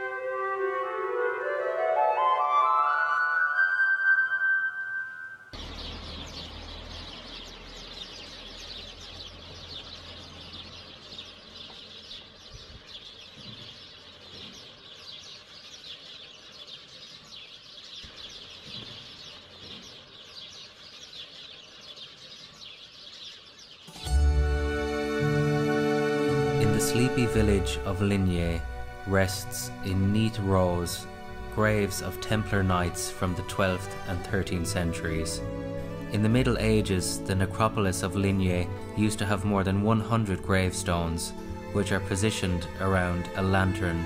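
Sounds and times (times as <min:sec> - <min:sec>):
small birds chirping: 0:05.5 - 0:44.0.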